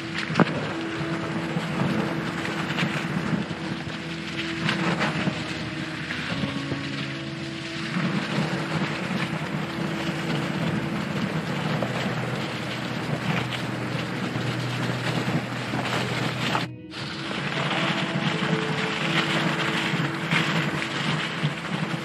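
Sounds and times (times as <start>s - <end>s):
bike tyres rolling over gravel: 0.0s - 22.0s
soft background music: 0.0s - 22.0s.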